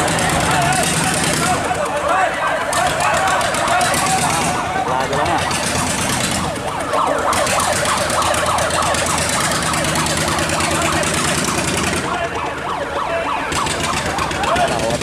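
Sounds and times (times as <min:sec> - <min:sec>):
boat engines running: 0:00.0 - 0:15.0
siren-like warbling: 0:02.4 - 0:15.0.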